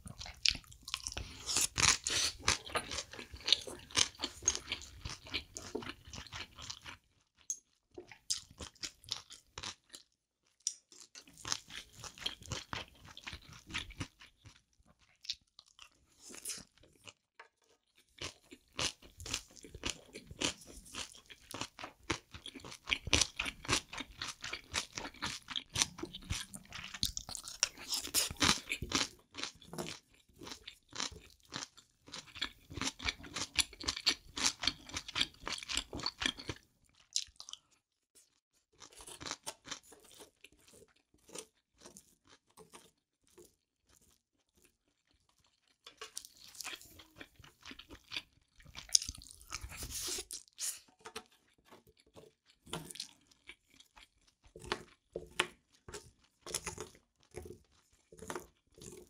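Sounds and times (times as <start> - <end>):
chewing and wet crunching: 0.0 - 59.0.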